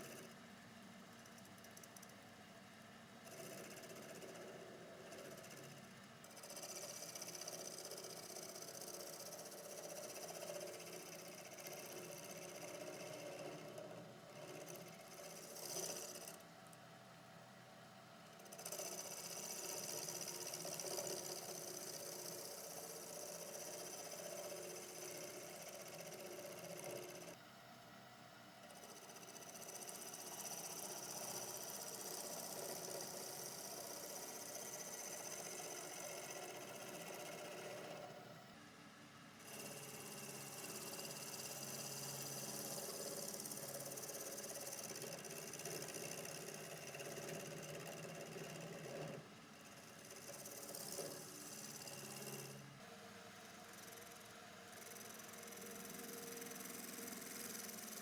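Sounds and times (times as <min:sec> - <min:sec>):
wood lathe turning tool whirr: 0:03.1 - 0:16.8, 0:18.1 - 0:27.4, 0:28.6 - 0:38.5, 0:39.4 - 0:58.0.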